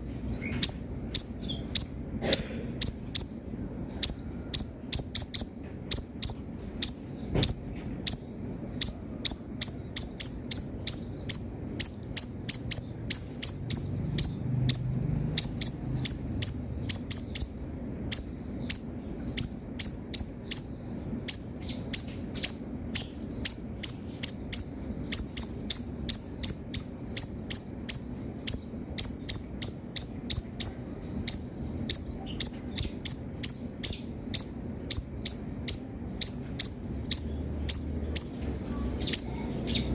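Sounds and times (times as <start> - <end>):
sunbird high-pitched chirps: 0.0 - 39.9.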